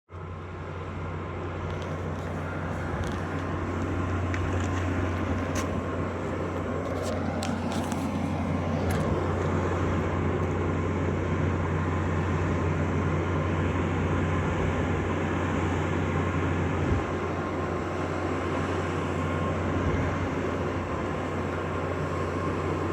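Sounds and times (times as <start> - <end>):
generator low drone: 0.1 - 22.9.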